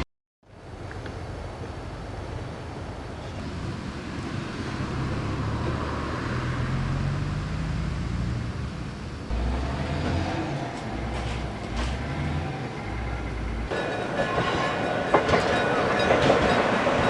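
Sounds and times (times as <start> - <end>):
electric train rumbling: 0.5 - 17.0.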